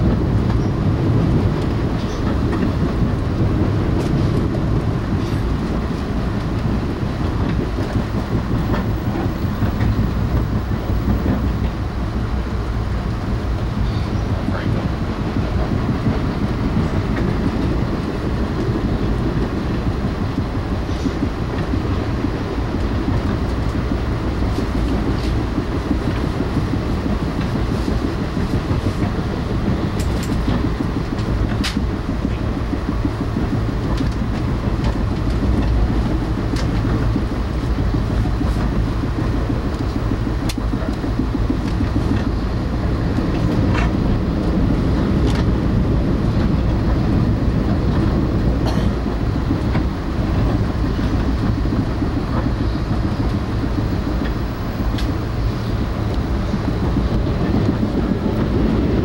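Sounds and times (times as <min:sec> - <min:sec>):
train car rumble: 0:00.0 - 0:59.0
wheels clicking over rail joints: 0:00.0 - 0:59.0.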